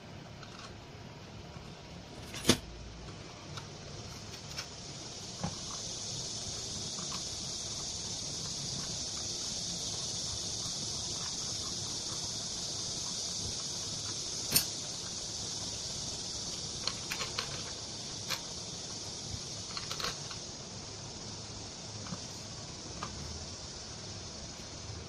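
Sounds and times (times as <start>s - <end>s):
steady high-pitched hiss: 0.0s - 25.0s.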